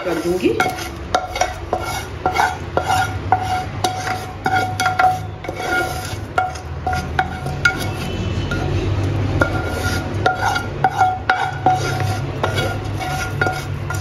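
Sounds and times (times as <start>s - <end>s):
wooden spoon knocking metal pan: 0.0s - 8.7s, 9.4s - 14.0s.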